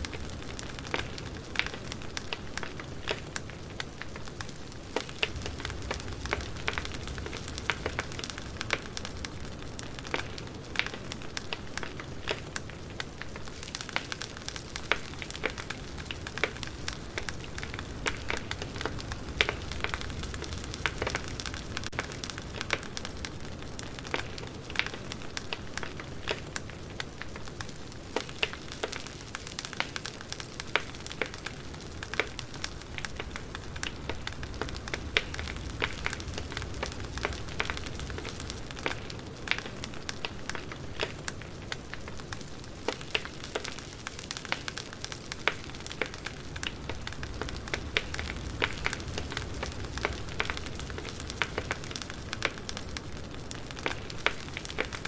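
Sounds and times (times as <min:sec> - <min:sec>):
campfire crackling and popping: 0:00.0 - 0:55.0
low rumble of campfire: 0:00.0 - 0:55.0.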